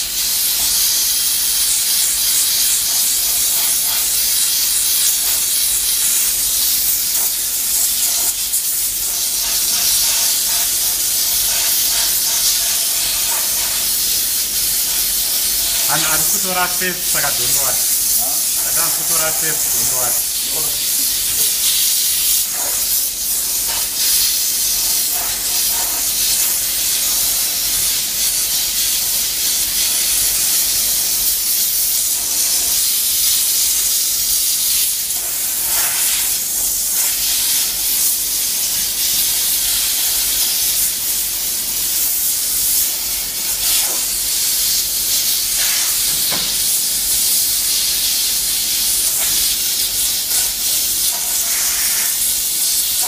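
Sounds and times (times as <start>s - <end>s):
steam cleaner hissing: 0.0s - 53.0s.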